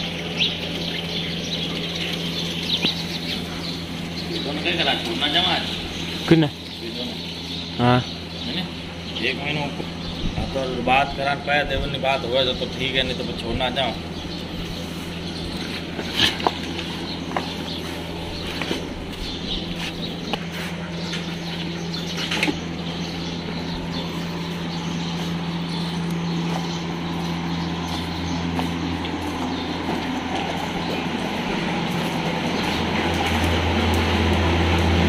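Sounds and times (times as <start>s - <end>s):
air cooler fan humming: 0.0s - 35.0s.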